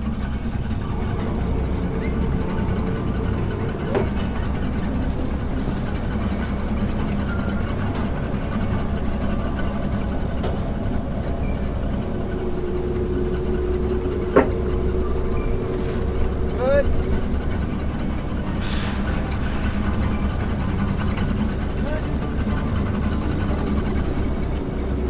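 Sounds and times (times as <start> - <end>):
higher hydraulic hum: 0.0 - 25.0
truck engine idling: 0.0 - 25.0.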